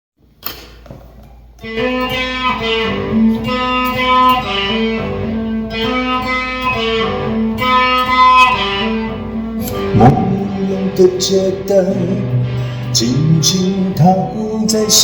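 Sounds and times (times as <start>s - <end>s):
plucked guitar melody: 1.6s - 15.0s.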